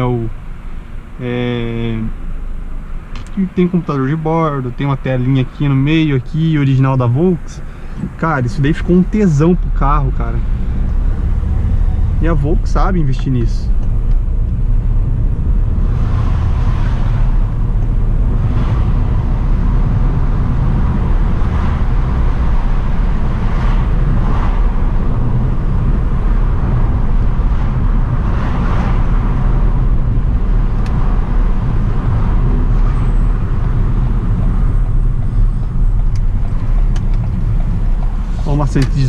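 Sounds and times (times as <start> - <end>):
engine and tyre rumble in cabin: 0.0 - 39.0.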